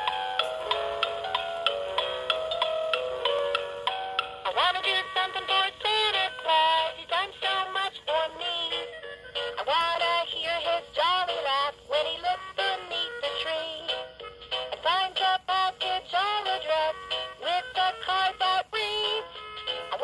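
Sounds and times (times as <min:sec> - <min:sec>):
toy singing through tinny speaker: 0:00.6 - 0:20.0.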